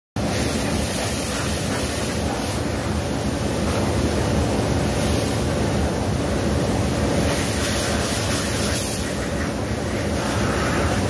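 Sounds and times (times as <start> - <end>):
water jet spraying metal: 0.2 - 5.7, 6.9 - 11.0.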